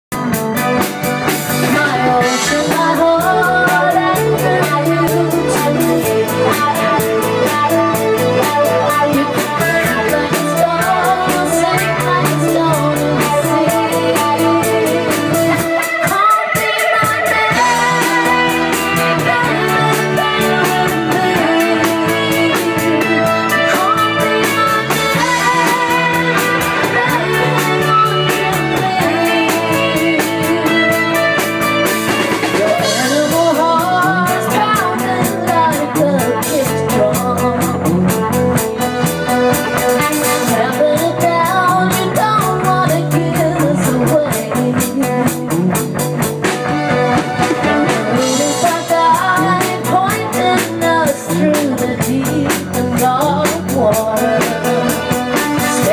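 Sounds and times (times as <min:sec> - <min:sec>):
live rock band playing: 0:00.0 - 0:55.9
woman singing lead vocal: 0:00.2 - 0:46.5, 0:47.6 - 0:55.9.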